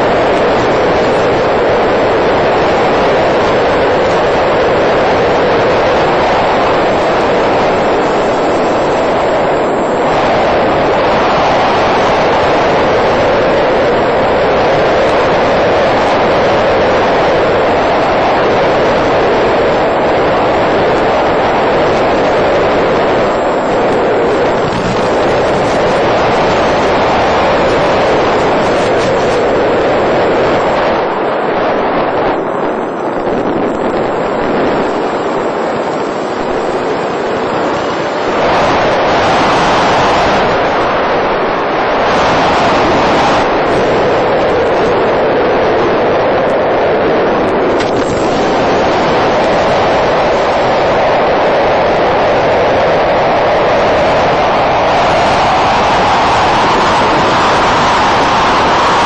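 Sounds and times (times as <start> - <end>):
airflow rushing: 0.0 - 59.0.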